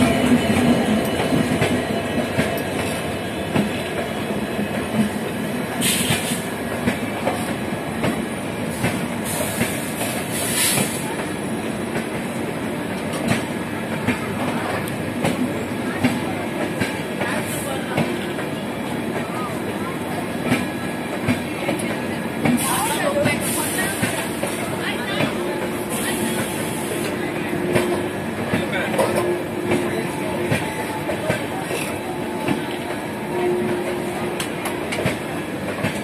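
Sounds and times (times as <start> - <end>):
train coaches rolling past: 0.0 - 36.0.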